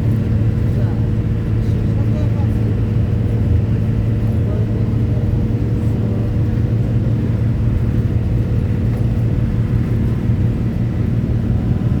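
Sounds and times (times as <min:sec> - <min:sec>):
engine low drone: 0:00.0 - 0:12.0.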